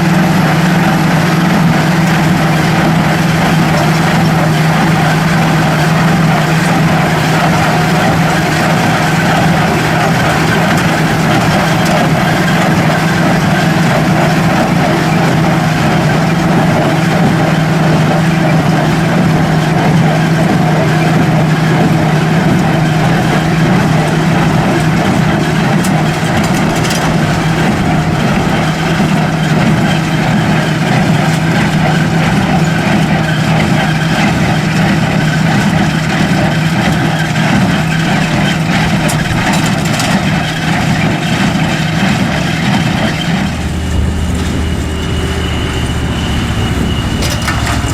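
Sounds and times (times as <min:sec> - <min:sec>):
heavy machinery engine humming: 0:00.0 - 0:47.9.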